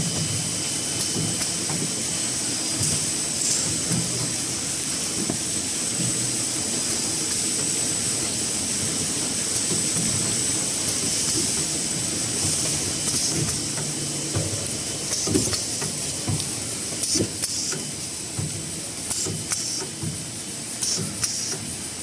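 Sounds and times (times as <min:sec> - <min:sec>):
packing machine hissing: 0:00.0 - 0:22.0.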